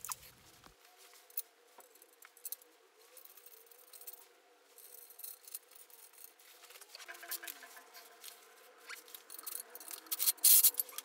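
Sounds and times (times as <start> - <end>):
hands handling metal parts: 0.0 - 11.0.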